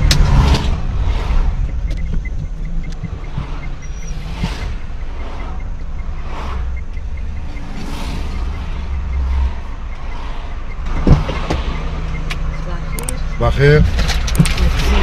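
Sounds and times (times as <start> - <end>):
car engine and road rumble: 0.0 - 15.0
cars passing with a whoosh: 0.0 - 15.0.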